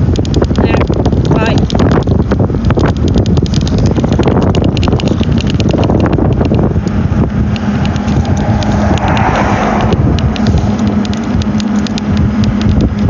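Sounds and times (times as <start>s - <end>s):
car rumbling from inside cabin: 0.0s - 13.0s
wind noise on microphone: 0.0s - 13.0s.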